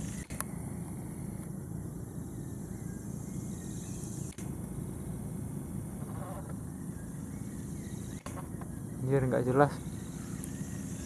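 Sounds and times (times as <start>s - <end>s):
insects buzzing: 0.0s - 11.0s
low steady rumble: 0.0s - 11.0s.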